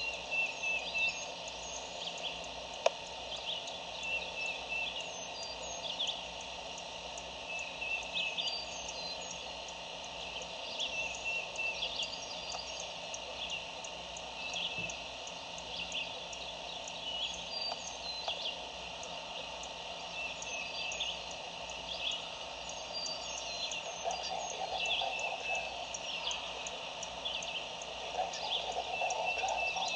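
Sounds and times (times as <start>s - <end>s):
outdoor background hiss: 0.0s - 29.9s
songbirds chirping: 0.0s - 29.9s.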